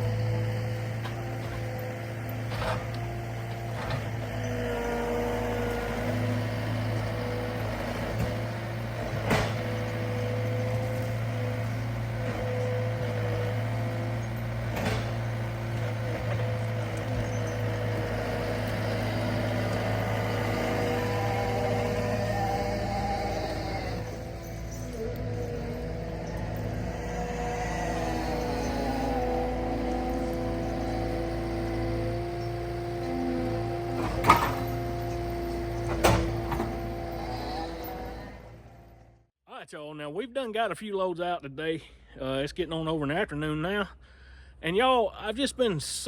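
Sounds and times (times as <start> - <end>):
diesel engine running: 0.0 - 39.3.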